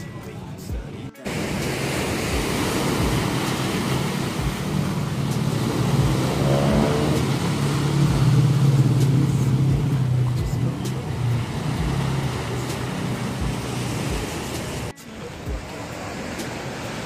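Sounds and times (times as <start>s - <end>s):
low engine hum: 0.0s - 17.0s
small waves washing onto rocks: 1.2s - 17.0s.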